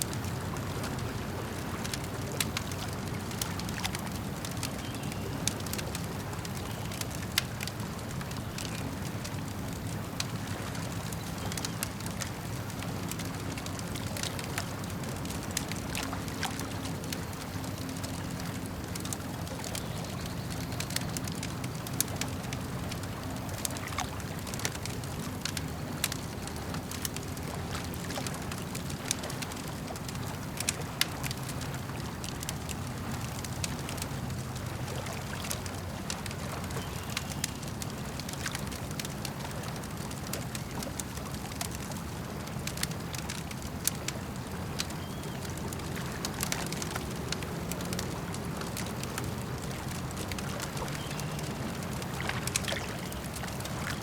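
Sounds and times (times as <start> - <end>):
campfire crackling and popping: 0.0 - 54.0
lake water washing: 0.0 - 54.0.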